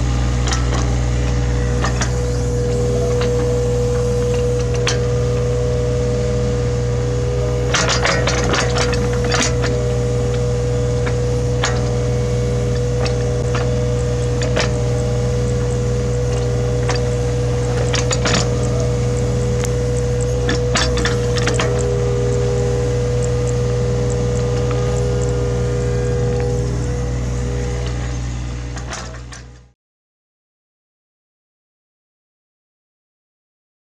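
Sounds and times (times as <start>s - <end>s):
excavator diesel engine running: 0.0s - 29.7s
hydraulic whine: 0.0s - 29.8s
metal clanks and knocks: 0.4s - 29.6s.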